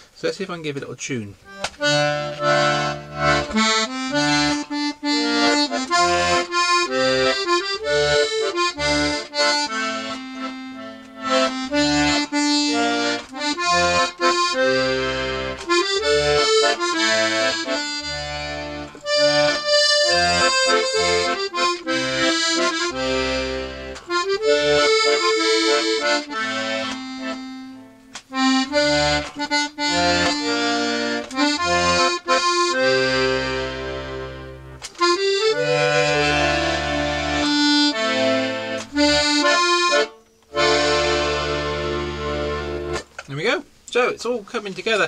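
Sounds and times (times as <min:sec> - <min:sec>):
accordion playing a tune: 0:01.4 - 0:43.6.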